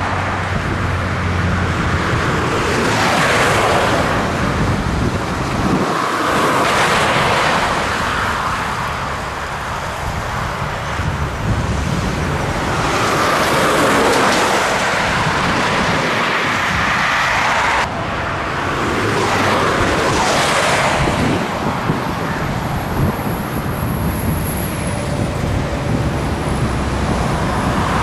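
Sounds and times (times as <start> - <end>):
tyre and wind noise: 0.0 - 28.0.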